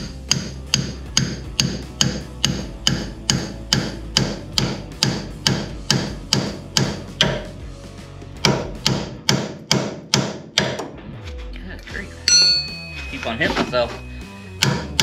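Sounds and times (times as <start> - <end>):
hammer striking steel: 0.0 - 7.5, 8.4 - 10.9, 12.3 - 15.0.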